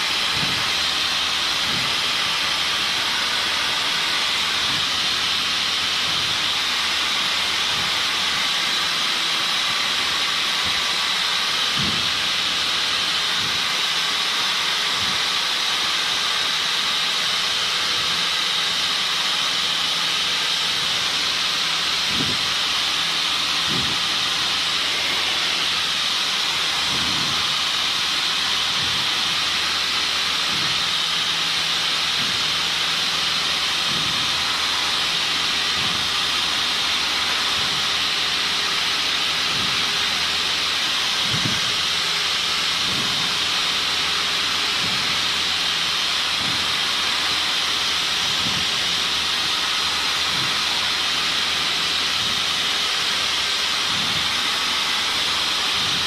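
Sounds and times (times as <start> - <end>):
aircraft engine drone: 0.0 - 56.0
airplane cabin hiss: 0.0 - 56.0.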